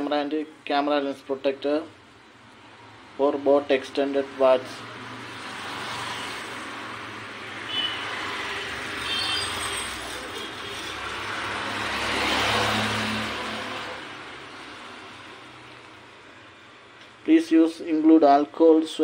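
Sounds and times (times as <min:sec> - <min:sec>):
road vehicle passing by: 0:02.0 - 0:17.3.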